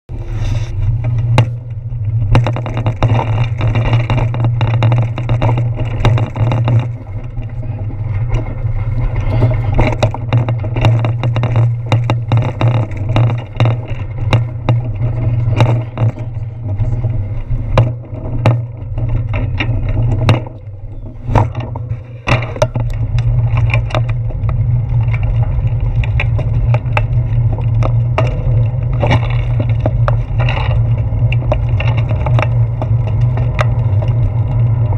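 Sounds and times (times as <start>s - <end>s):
bicycle riding rumble: 0.0s - 34.9s
handlebar mount rattling: 0.2s - 34.9s.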